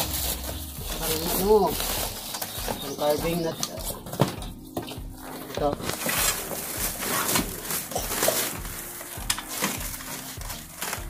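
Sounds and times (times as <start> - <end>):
cardboard and plastic rustling: 0.0 - 11.0
plastic wrapping crackles: 0.0 - 11.0.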